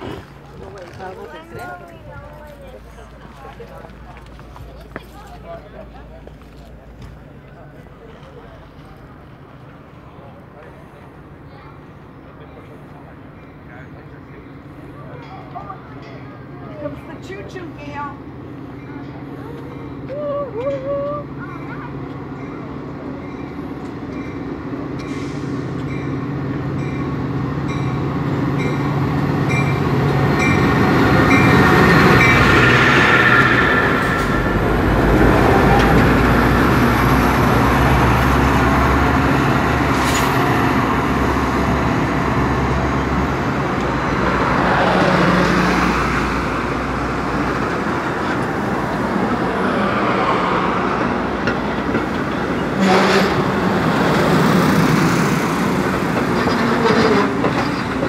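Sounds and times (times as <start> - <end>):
diesel locomotive engines: 0.0 - 58.0
train coaches rumbling on rails: 0.0 - 58.0.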